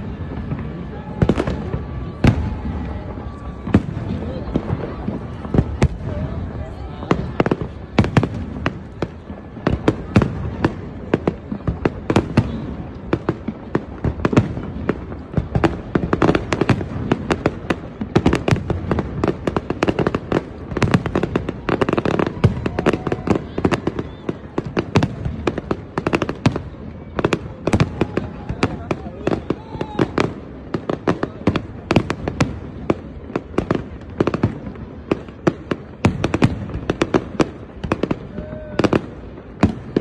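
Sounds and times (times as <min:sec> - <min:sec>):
fireworks cracks and bangs: 0:00.0 - 0:40.0.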